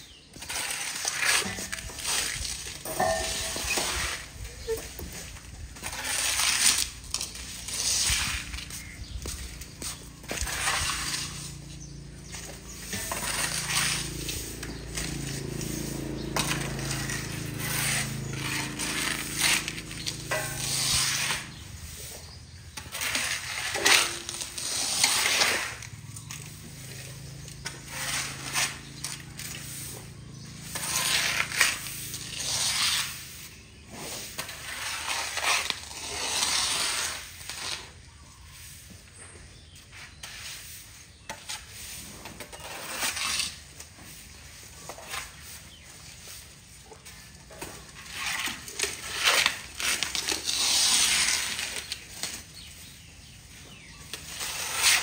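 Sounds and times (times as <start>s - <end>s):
stiff broom sweeping wet concrete: 0.0s - 55.0s.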